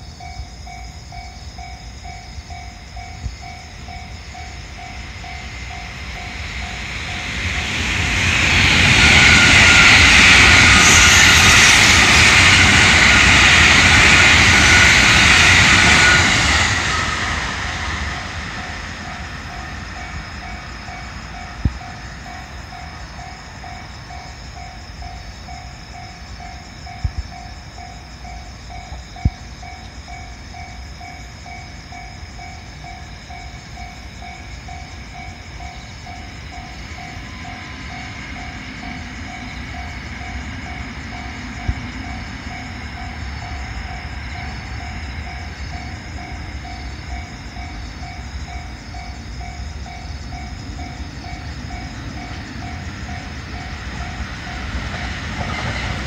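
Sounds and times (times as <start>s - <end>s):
railway crossing bell clanging: 0.0s - 56.0s
train passing: 0.0s - 56.0s.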